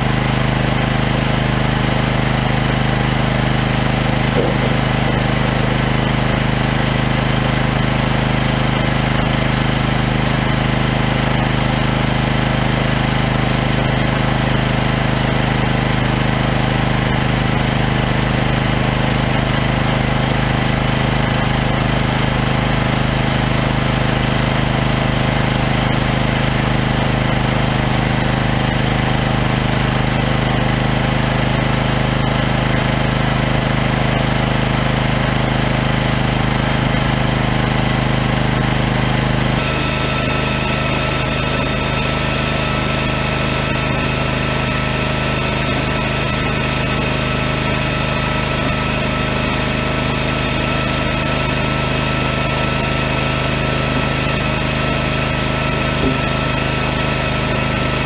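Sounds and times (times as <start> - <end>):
machinery engine drone: 0.0 - 58.0.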